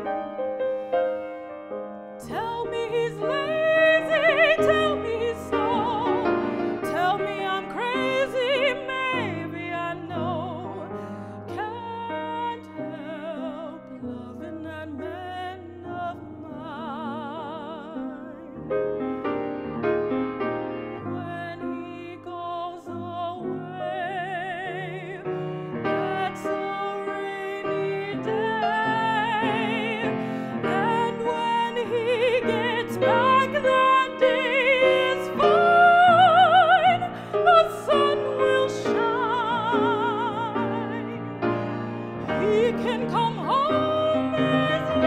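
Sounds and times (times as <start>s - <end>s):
piano: 0.0s - 45.0s
woman singing operatically: 2.2s - 18.6s, 21.1s - 25.3s, 26.0s - 41.4s, 42.2s - 45.0s.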